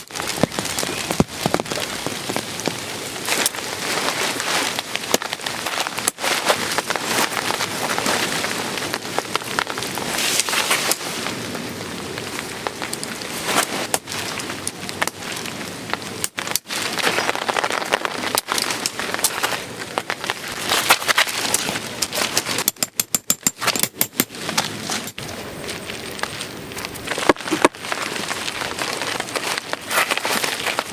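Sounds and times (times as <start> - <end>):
heavy rain falling: 0.0 - 22.6, 24.3 - 30.9.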